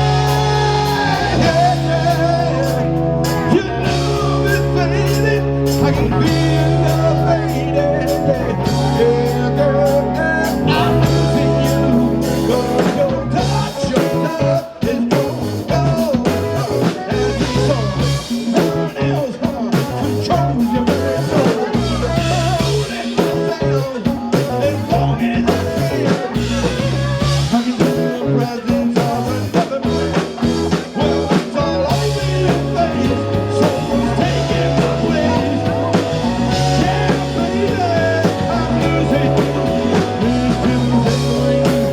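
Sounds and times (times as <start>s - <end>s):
electric guitar lead: 0.0s - 41.9s
live rock band playing: 0.0s - 41.9s.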